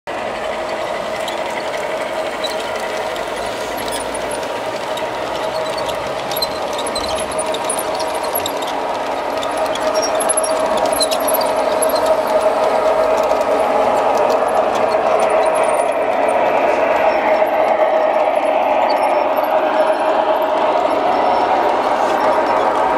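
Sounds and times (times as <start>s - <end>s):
model train electric drive hum: 0.1s - 22.9s
high wheel squeaks: 0.4s - 22.9s.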